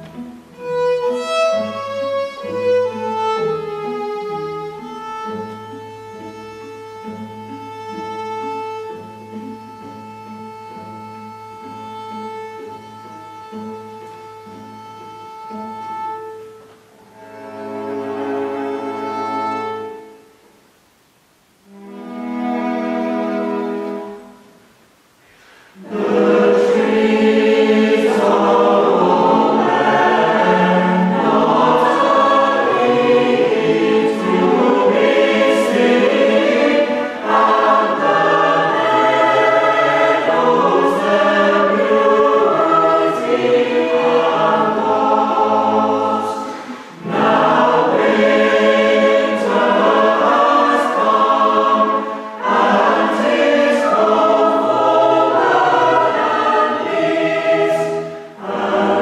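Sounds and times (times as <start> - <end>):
cello and violins: 0.0 - 20.3, 21.7 - 24.5, 25.7 - 59.0
choir singing a carol: 0.0 - 20.3, 25.7 - 59.0.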